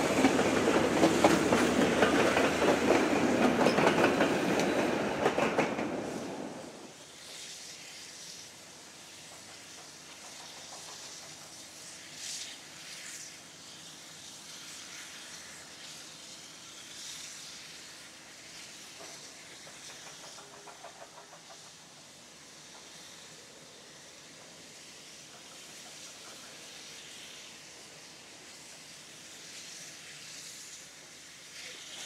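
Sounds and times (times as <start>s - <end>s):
steam hissing: 0.0s - 32.0s.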